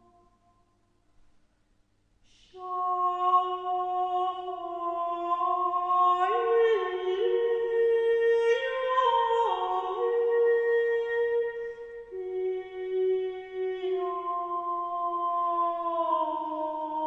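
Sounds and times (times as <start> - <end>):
slow wordless voice-like music: 2.3 - 17.0.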